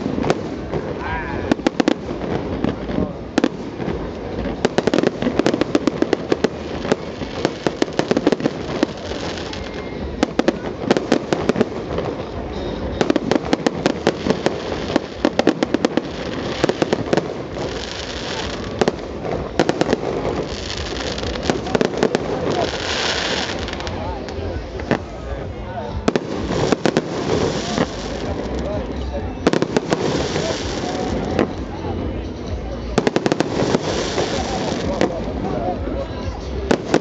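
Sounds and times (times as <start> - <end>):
fireworks hissing: 0.0 - 31.9, 33.0 - 37.0
fireworks bangs and crackling: 0.0 - 37.0.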